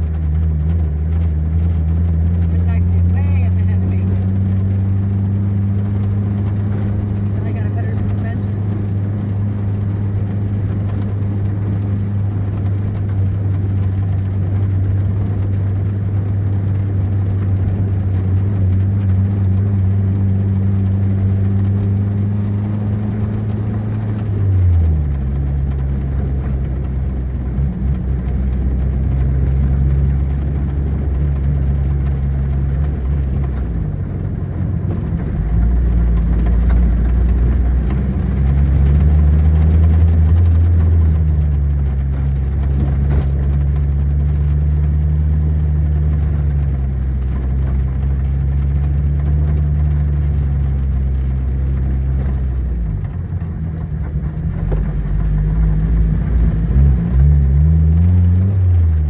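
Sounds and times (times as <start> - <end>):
car engine hum from inside: 0.0 - 59.0.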